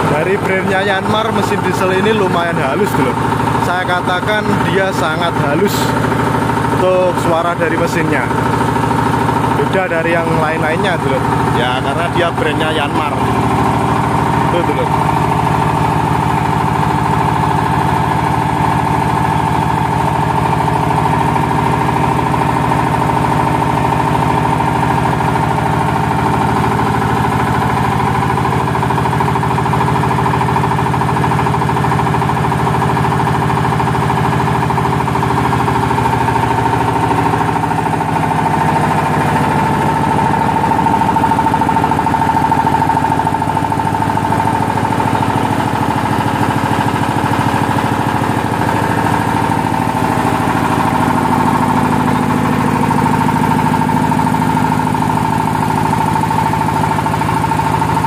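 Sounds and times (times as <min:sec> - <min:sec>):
diesel engine idling: 0:00.0 - 0:58.0
high-pitched generator hum: 0:00.0 - 0:58.0.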